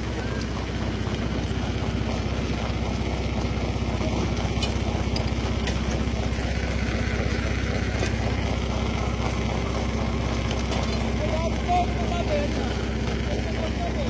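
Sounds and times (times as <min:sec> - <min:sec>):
rock crusher machinery drone: 0:00.0 - 0:14.0.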